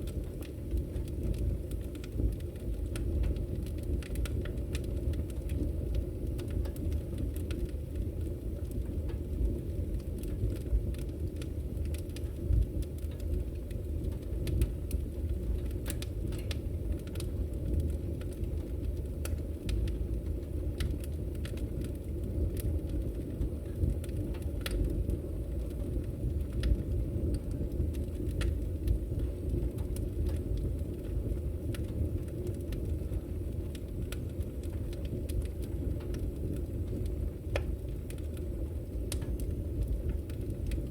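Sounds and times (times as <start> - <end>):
crackling and popping wood: 0.0 - 40.9
fire low rumble: 0.0 - 40.9.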